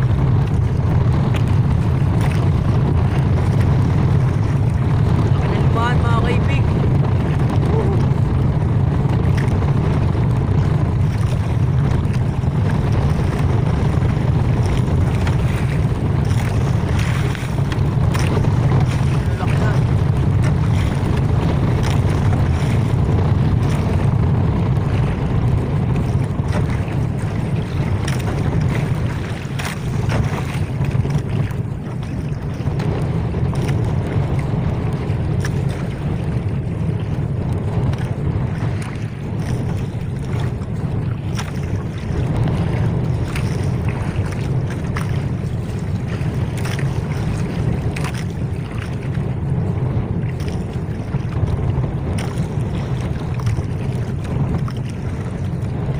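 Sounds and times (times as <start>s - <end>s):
boat engine running: 0.0s - 55.9s
water rushing past hull: 0.0s - 55.9s
wind buffeting microphone: 0.0s - 55.9s.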